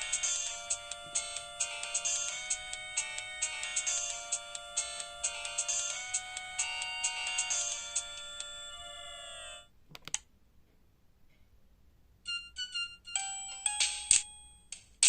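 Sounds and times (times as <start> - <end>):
phone ringtone melody: 0.0 - 9.7, 12.3 - 14.7.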